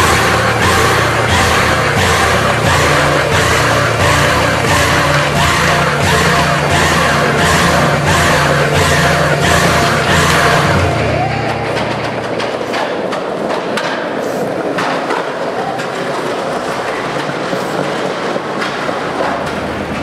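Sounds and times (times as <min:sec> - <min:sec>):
skateboard clacks: 0:00.0 - 0:20.0
skateboard wheels rumbling: 0:00.0 - 0:20.0.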